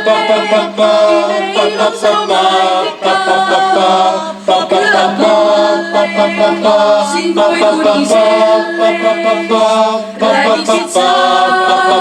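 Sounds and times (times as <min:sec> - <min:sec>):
group singing a cappella: 0:00.0 - 0:12.0.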